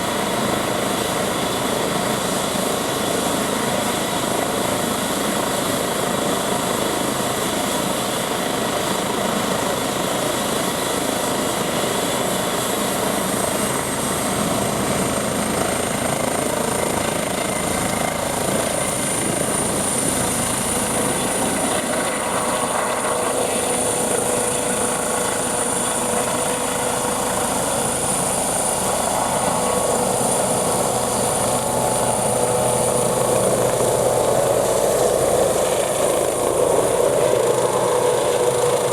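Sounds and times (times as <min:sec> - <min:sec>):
helicopter engine and rotor roar: 0:00.0 - 0:38.9.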